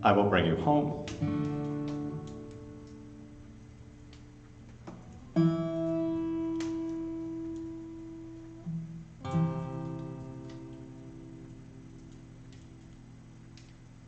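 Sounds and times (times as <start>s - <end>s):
guitar chords ringing: 0.0s - 13.6s.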